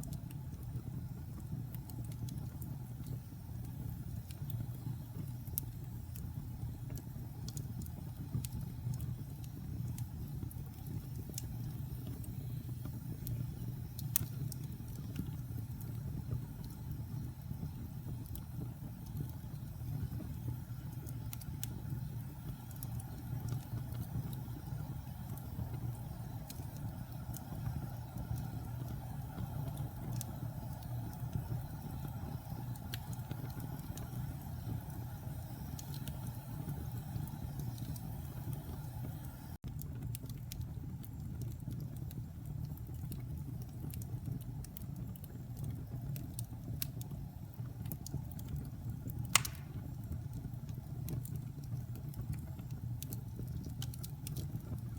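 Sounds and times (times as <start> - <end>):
fire crackling: 0.0 - 54.9
low rumble of flames: 0.0 - 54.9.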